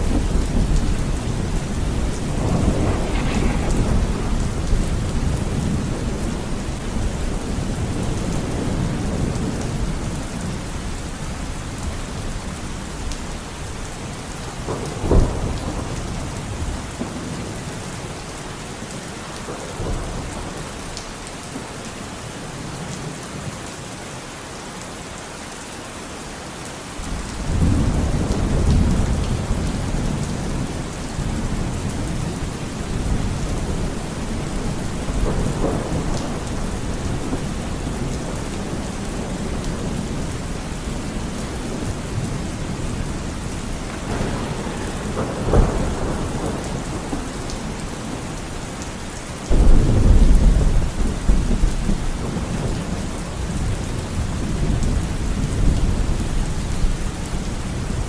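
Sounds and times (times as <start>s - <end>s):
rolling thunder: 0.0s - 12.4s, 14.4s - 18.2s, 27.1s - 58.0s
rain: 0.0s - 58.0s.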